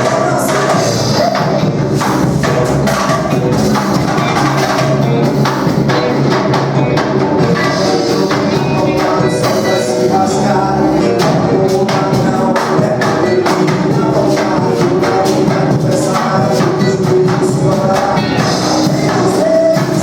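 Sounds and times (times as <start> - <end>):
drums and percussion beat: 0.0 - 20.0
pitched instruments playing: 0.0 - 20.0.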